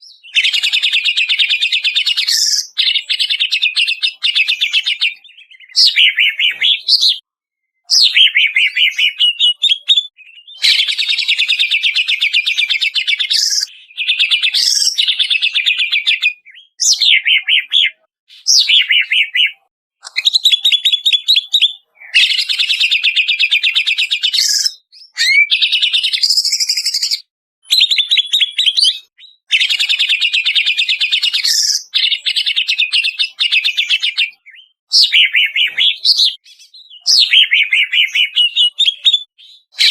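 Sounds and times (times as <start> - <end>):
bird singing fast trills: 0.0 - 7.2, 7.8 - 39.9.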